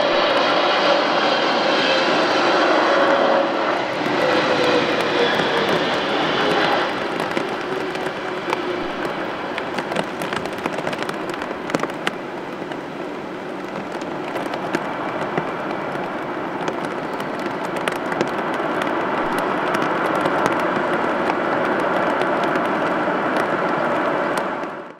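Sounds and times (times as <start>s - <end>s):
jet engines roaring with crackle: 0.0s - 24.9s.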